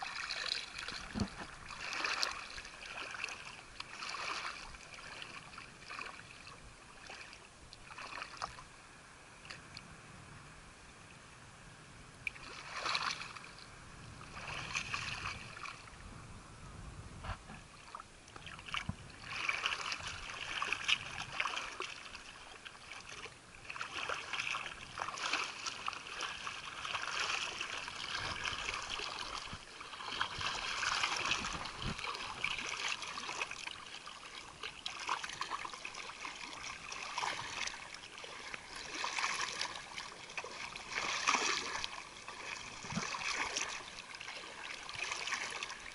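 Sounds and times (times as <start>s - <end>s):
sea water sloshing and splashing: 0.0s - 9.8s, 12.2s - 16.1s, 17.2s - 45.9s.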